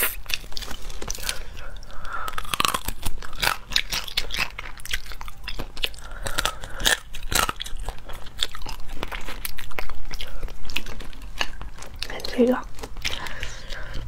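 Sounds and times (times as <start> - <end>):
chewing: 0.0 - 14.0
crunching crayfish shells: 0.0 - 14.0.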